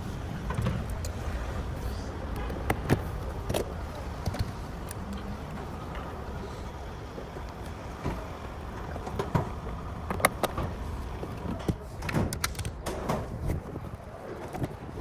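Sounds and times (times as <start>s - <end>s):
scattered clicks and knocks: 0.0s - 15.0s
steady low rumble: 0.0s - 15.0s.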